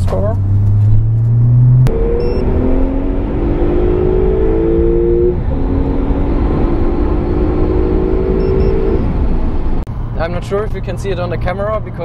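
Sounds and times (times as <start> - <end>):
car engine at full throttle: 0.0 - 10.1
road and tyre rumble: 0.0 - 12.0.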